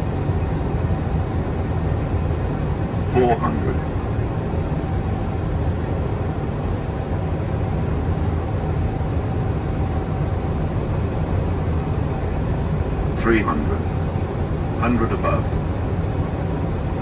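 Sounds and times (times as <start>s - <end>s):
jet engines humming: 0.0s - 17.0s.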